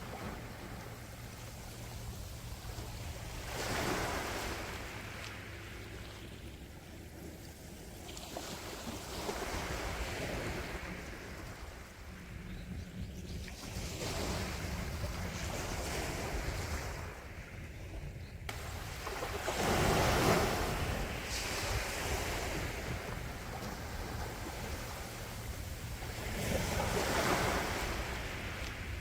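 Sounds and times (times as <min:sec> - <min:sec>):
sea waves breaking: 0:00.0 - 0:12.5, 0:13.4 - 0:17.8, 0:18.5 - 0:29.0.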